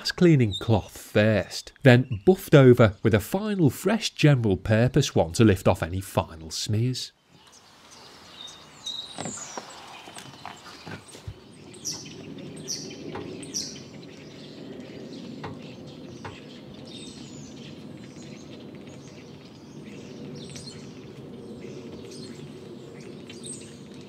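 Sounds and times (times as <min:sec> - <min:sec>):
bird chirping: 0:00.0 - 0:04.6, 0:06.3 - 0:24.0.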